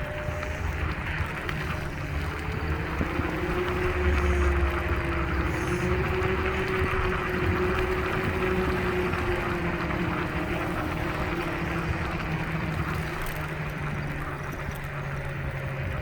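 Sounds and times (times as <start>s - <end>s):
electric scooter motor whine: 0.0s - 16.0s
road and wind noise: 0.0s - 16.0s.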